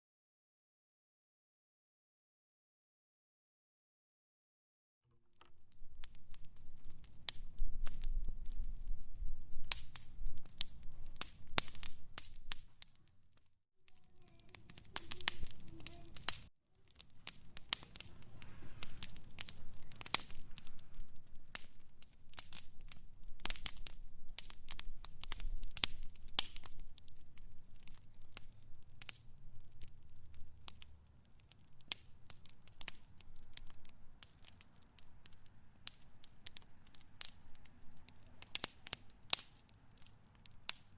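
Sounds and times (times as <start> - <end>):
wood fire crackling and popping: 5.3 - 40.9.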